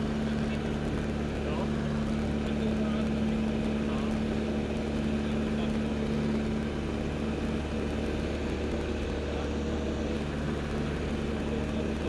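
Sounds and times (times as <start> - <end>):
propeller engine drone: 0.0 - 12.0.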